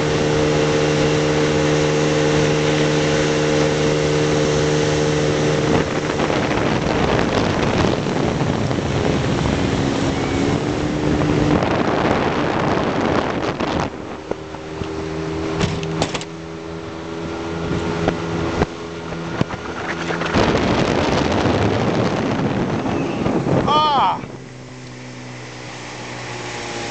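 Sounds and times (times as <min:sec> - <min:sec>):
motorboat engine running: 0:00.0 - 0:26.9
rush of wind and water spray: 0:00.0 - 0:26.9.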